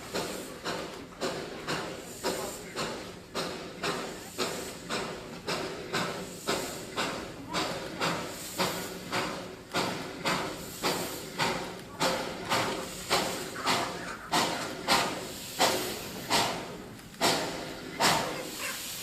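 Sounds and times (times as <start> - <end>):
steam locomotive chuffing: 0.0 - 19.0.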